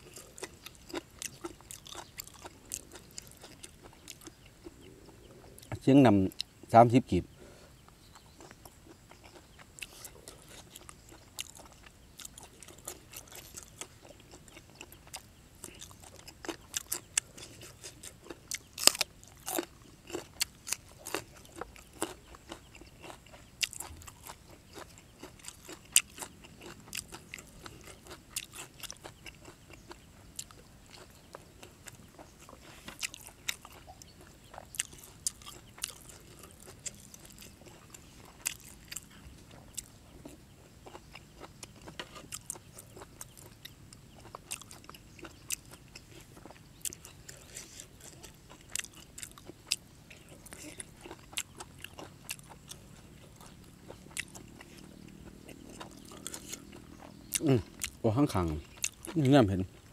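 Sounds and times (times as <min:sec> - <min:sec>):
wet chewing clicks and smacks: 0:00.0 - 0:06.6, 0:07.8 - 0:59.9.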